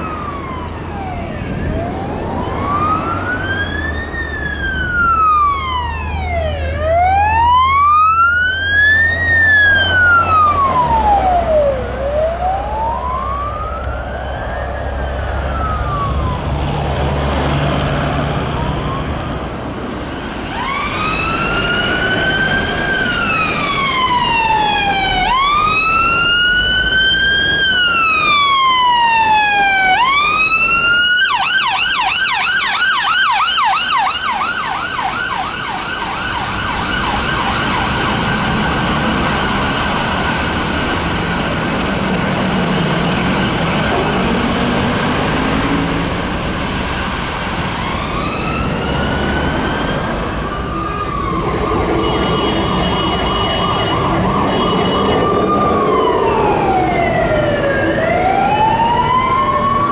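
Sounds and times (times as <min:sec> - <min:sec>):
ambulance siren wail and yelp: 0:00.0 - 0:59.9
fire engine siren: 0:00.0 - 0:59.9
street traffic: 0:00.0 - 0:59.9.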